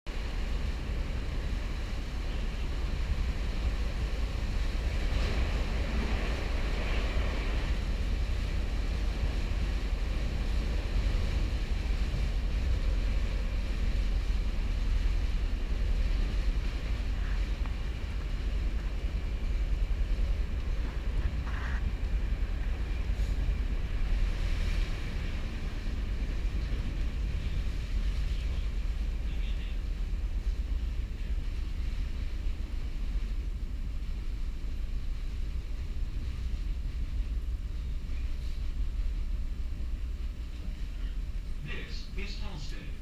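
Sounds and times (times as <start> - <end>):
elevated train rumbling: 0.1 - 43.0.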